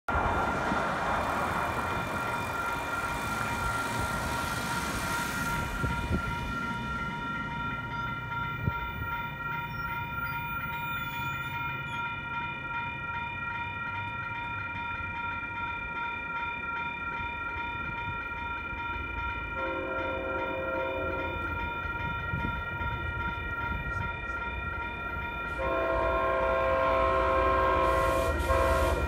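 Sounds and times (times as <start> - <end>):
railroad crossing bell ringing: 0.1 - 29.0.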